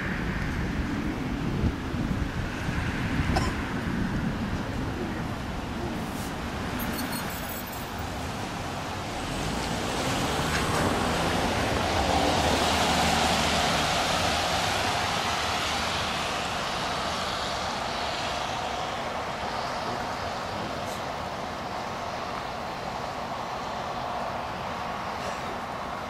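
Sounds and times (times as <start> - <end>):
vehicle tyres hissing on wet street: 0.0 - 26.0.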